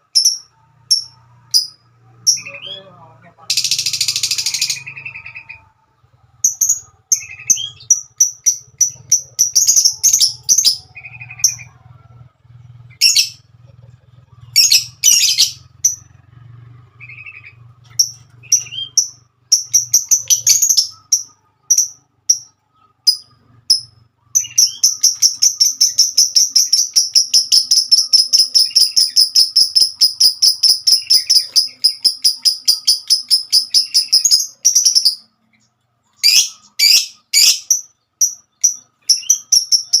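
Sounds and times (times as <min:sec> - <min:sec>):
lovebird chirping: 0:00.0 - 0:40.0.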